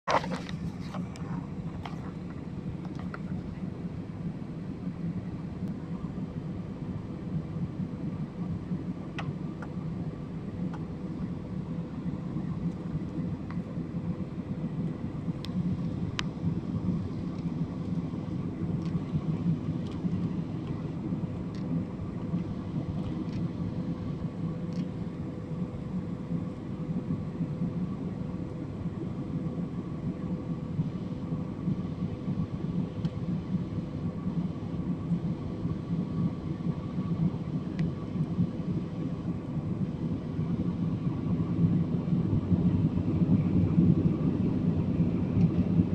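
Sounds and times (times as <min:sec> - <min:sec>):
airliner engines and airflow drone: 0:00.0 - 0:45.9
faint steady hum: 0:00.1 - 0:45.9.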